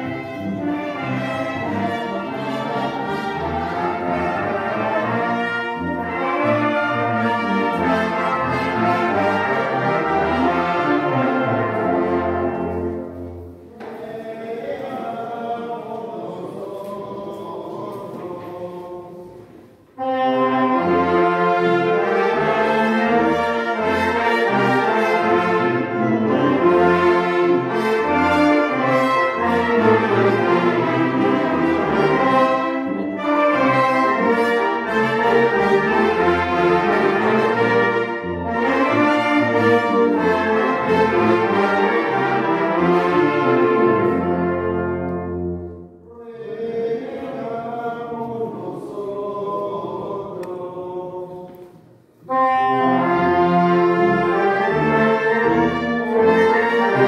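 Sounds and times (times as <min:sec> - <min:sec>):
brass band playing: 0:00.0 - 0:14.4, 0:19.9 - 0:48.0, 0:52.2 - 0:57.0.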